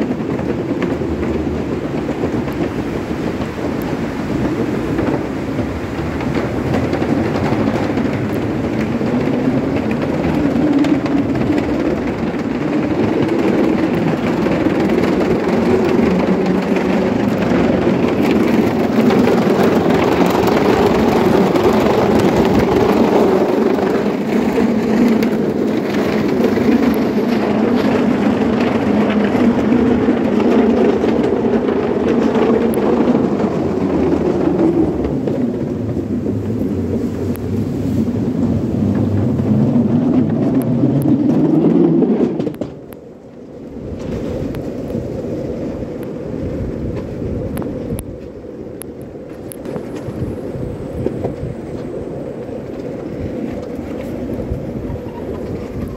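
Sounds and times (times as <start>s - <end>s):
skateboard wheels rolling on wood: 0.0s - 55.9s
wheels clattering over plank joints: 0.0s - 55.9s.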